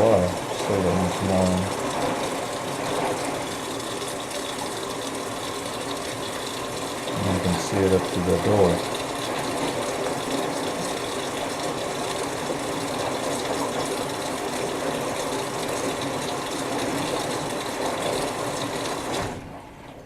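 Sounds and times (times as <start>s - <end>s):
water rushing into washer drum: 0.0s - 20.0s.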